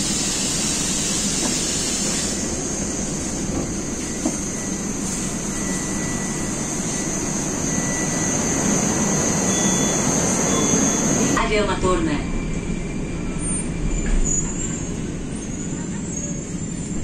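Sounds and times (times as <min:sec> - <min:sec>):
metro train hiss and hum: 0:00.0 - 0:17.0.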